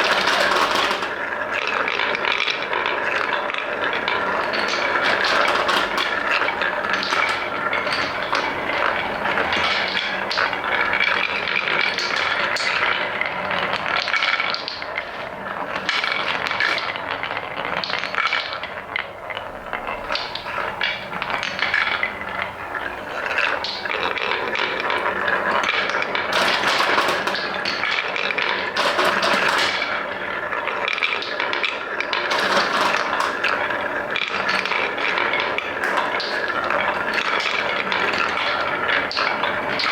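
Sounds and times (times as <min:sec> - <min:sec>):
wooden balls rattling down a run: 0:00.0 - 0:39.9.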